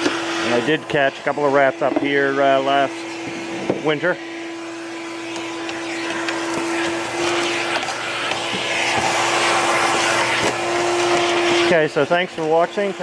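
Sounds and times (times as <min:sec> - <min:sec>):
shop vacuum running: 0:00.0 - 0:13.0.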